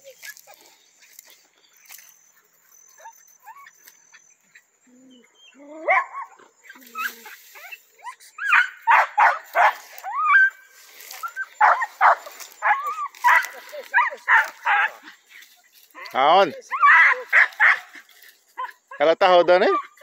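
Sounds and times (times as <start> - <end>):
dogs barking and yelping: 0.0 - 20.0.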